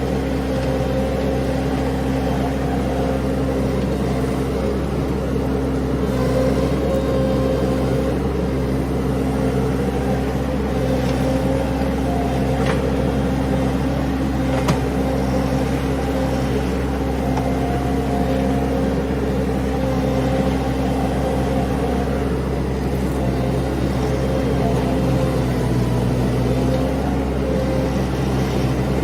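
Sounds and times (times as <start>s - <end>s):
skid steer engine running: 0.0s - 29.0s.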